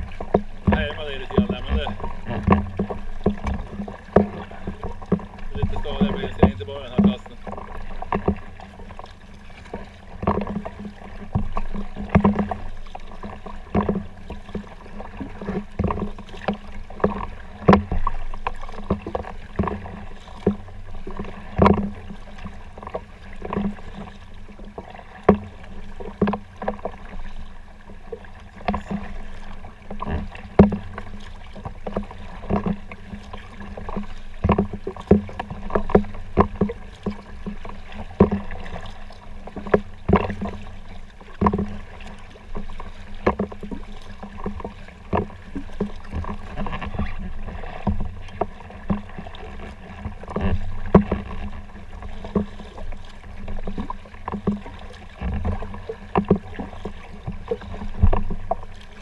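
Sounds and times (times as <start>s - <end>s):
paddle knocks: 0.0s - 59.0s
paddle splashing in water: 0.0s - 59.0s
water washing: 0.0s - 59.0s.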